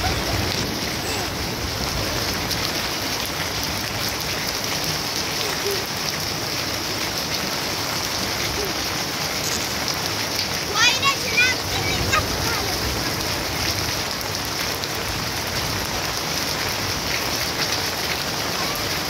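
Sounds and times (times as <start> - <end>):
rain on plants and paving: 0.0 - 19.0.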